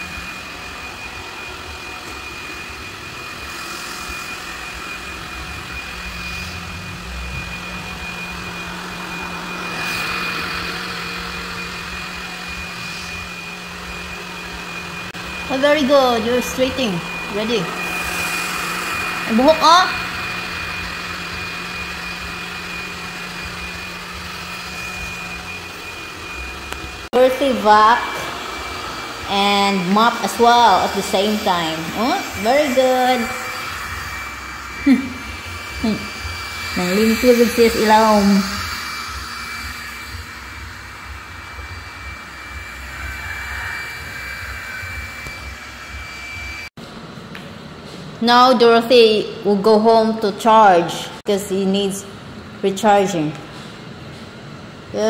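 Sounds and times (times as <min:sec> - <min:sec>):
robot vacuum cleaner whirring: 0:00.0 - 0:46.7.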